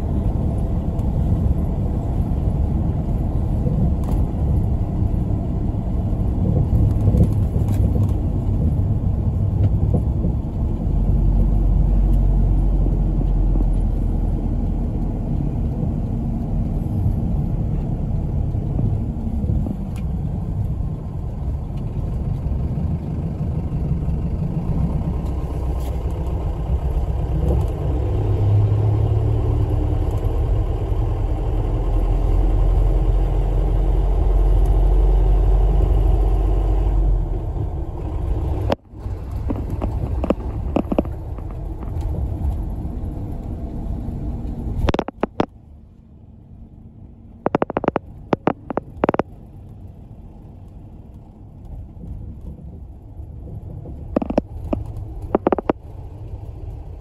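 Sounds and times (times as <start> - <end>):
bus engine and road noise: 0.0 - 57.0.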